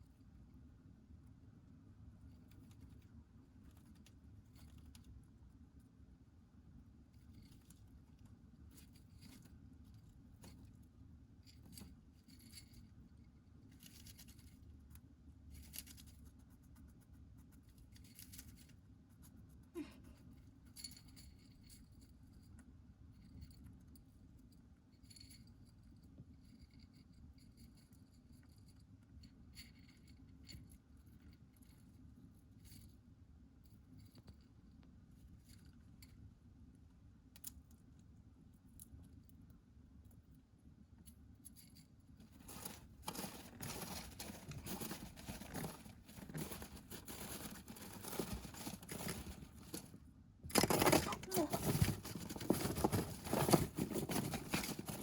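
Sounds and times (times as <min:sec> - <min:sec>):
low room hum: 0:00.0 - 0:55.0.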